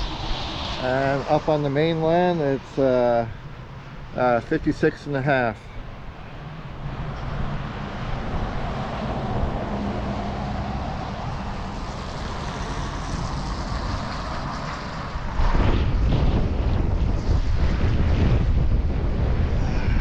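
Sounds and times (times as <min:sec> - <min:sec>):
wind buffeting microphone: 0:00.0 - 0:04.6, 0:05.9 - 0:20.0
distant engine hum: 0:00.0 - 0:20.0.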